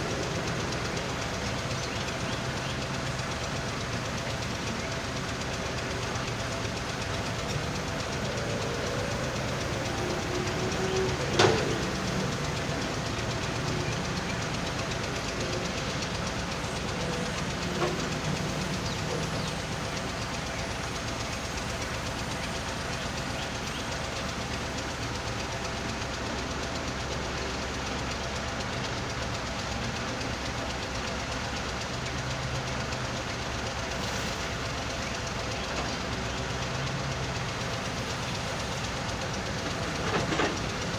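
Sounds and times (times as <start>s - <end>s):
screening machine running: 0.0s - 27.6s, 32.4s - 40.9s
diesel excavator running: 0.0s - 40.9s.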